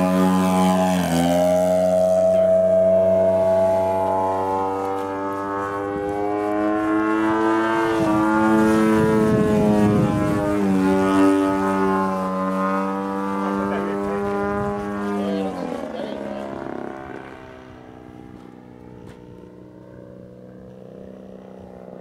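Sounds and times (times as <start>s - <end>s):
model airplane engine droning: 0.0s - 22.0s.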